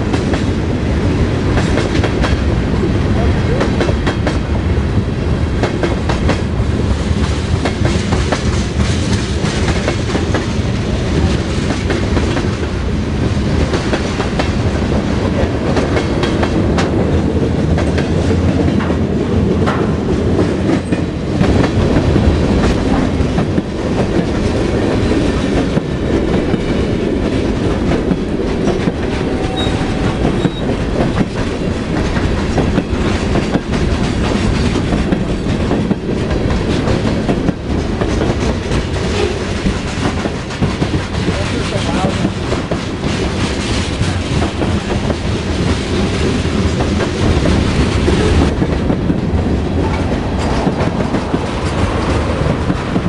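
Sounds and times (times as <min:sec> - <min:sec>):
steel wheels rumbling on rails: 0:00.0 - 0:53.0
wheels clickety-clack over rail joints: 0:00.0 - 0:53.0.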